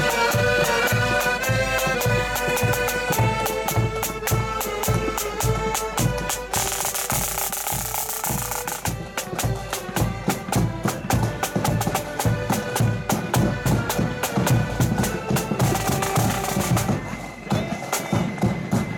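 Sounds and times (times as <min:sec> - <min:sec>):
accordions playing: 0:00.0 - 0:18.9
marching drums beating: 0:00.0 - 0:18.9.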